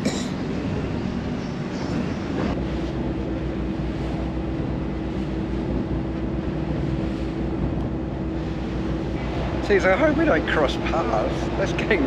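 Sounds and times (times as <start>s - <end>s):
ferry engine throbbing: 0.0s - 12.0s.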